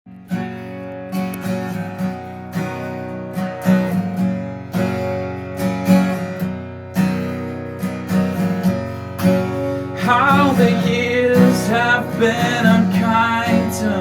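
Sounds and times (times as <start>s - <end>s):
acoustic guitar strumming: 0.1s - 14.0s.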